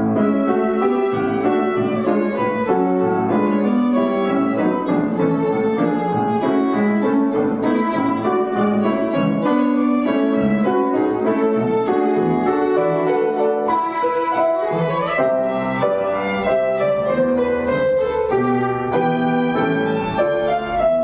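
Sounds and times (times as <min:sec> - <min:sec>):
piano accompaniment: 0:00.0 - 0:21.0
violin playing slow melody: 0:00.0 - 0:21.0.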